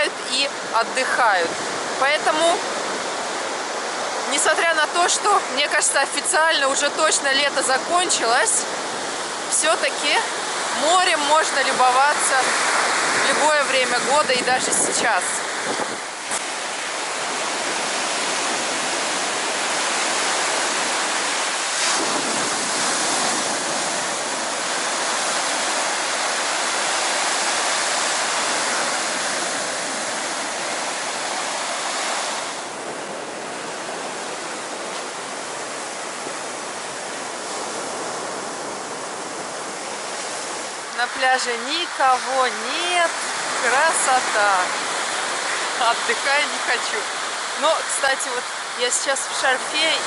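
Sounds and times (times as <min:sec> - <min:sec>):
storm surf breaking on beach: 0:00.0 - 0:50.0.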